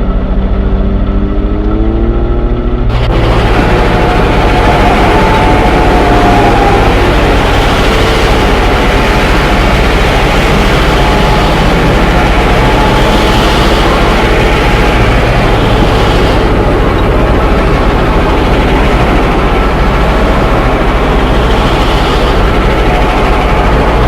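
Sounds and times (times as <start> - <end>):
rushing noise: 0.0 - 24.0
train engine rumble: 0.0 - 24.0.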